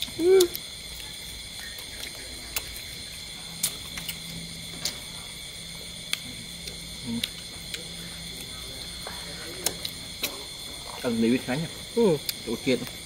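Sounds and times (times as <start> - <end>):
faint low hum: 0.0 - 13.0
night insects chirring: 0.0 - 13.0
smacks and clicks of eating: 0.0 - 13.0.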